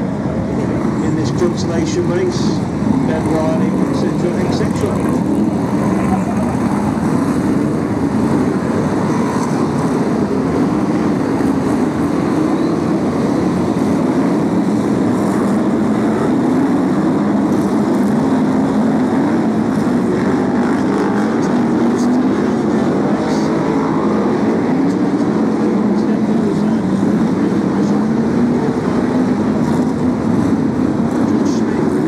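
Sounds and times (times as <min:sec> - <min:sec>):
racing car engines: 0:00.0 - 0:32.0.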